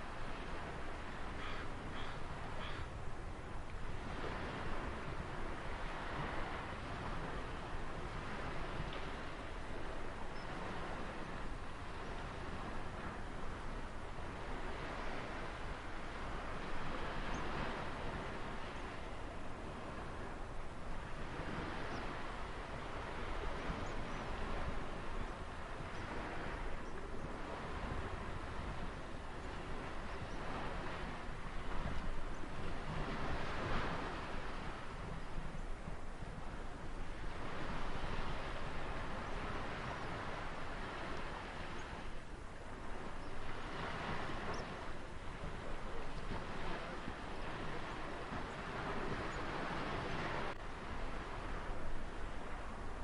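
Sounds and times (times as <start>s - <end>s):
ocean waves washing: 0.0s - 53.0s.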